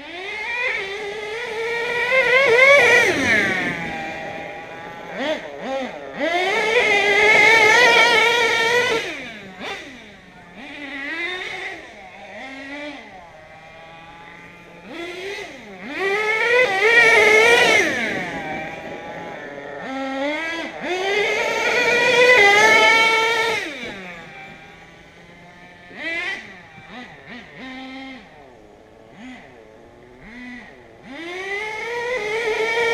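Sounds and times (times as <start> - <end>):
small engine revving: 0.0 - 32.9.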